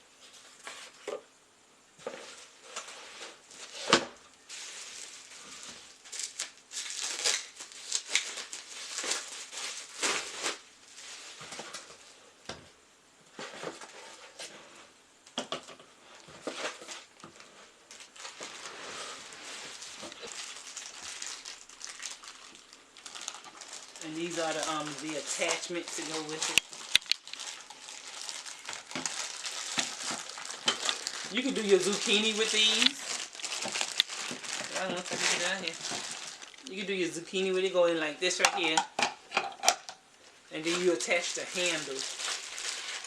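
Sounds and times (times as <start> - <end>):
packaging rustling and crinkling: 2.0 - 12.3, 13.3 - 15.0, 15.6 - 38.8, 40.6 - 43.0.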